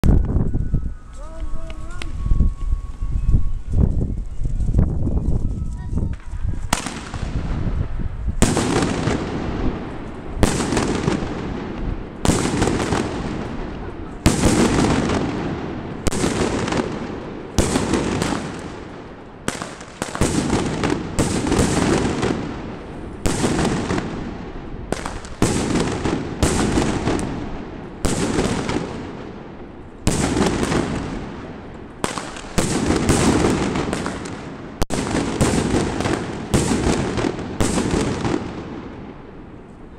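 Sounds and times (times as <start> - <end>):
firework bangs: 6.0 - 39.5.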